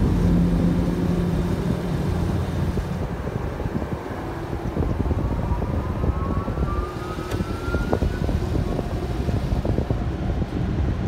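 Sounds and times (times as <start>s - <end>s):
thin whine rising in pitch: 0.0s - 10.2s
car-wash dryer blowers rushing: 0.0s - 11.0s.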